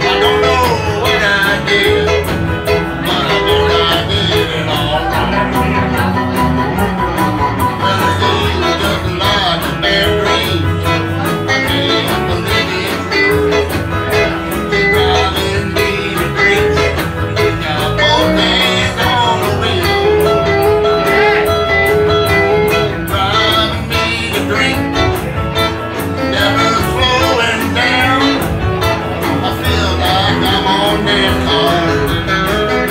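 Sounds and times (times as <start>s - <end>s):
country band playing: 0.0s - 32.9s.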